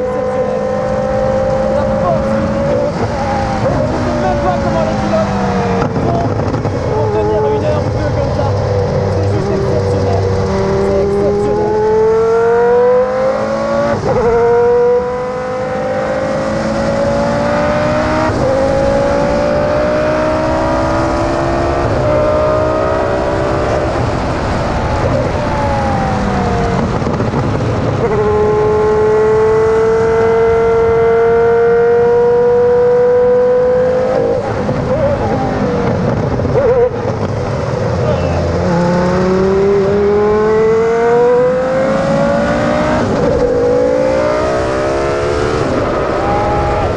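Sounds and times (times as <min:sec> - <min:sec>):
racing car engine at full throttle: 0:00.0 - 0:46.9.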